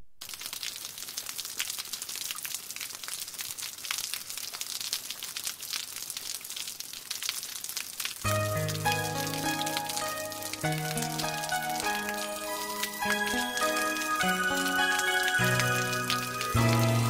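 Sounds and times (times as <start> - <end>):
rain patter: 0.2 - 17.0.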